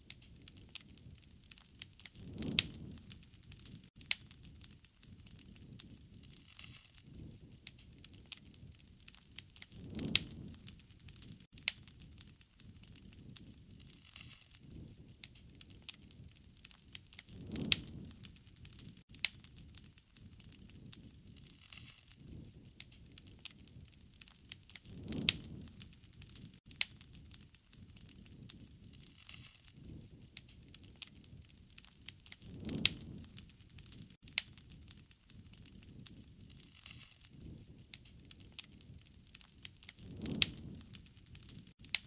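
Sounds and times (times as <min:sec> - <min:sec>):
low rush of flame: 0:00.0 - 0:42.0
wood fire crackling and popping: 0:00.0 - 0:42.0.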